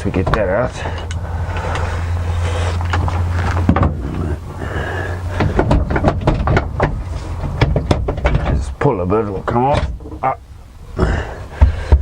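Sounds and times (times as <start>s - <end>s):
car parts knocking and rattling: 0.0s - 12.0s
steady low hum: 0.0s - 12.0s.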